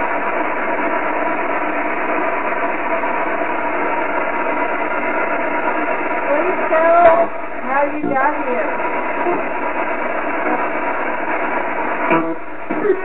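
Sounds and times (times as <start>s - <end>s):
static hiss: 0.0s - 13.0s.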